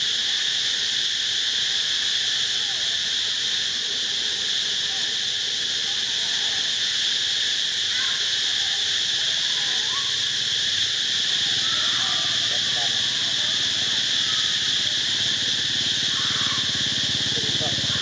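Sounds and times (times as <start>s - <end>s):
insects shrilling: 0.0s - 18.0s.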